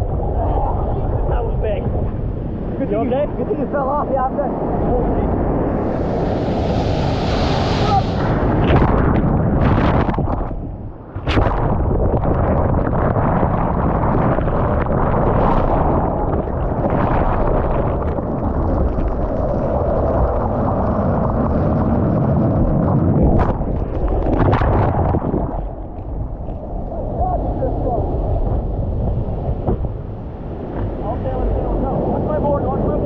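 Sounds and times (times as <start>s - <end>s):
surf rushing: 0.0s - 33.0s
wind buffeting microphone: 0.0s - 33.0s.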